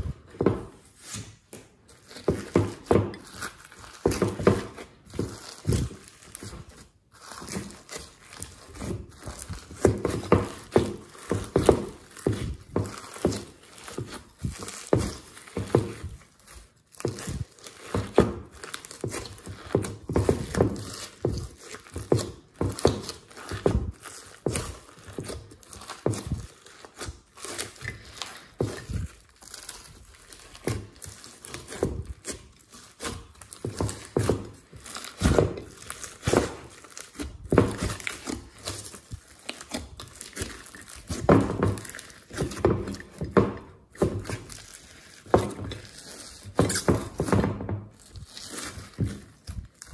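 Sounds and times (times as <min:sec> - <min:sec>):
slime squishing and crackling: 0:00.0 - 0:49.9.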